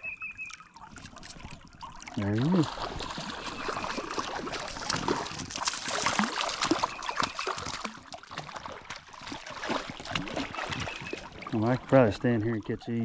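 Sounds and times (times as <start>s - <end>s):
fish splashing in shallow water: 0.0s - 13.0s
water trickling: 0.0s - 13.0s.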